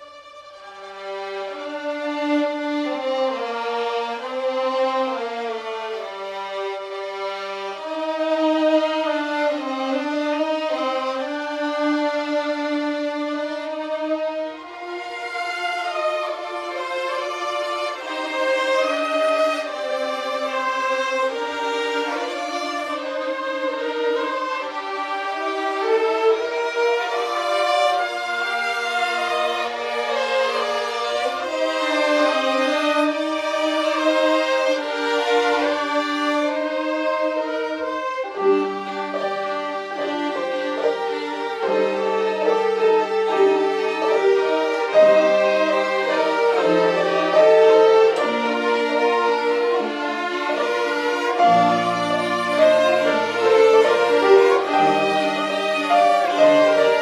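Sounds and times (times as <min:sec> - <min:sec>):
violins playing held bowed notes: 0:00.0 - 0:57.0.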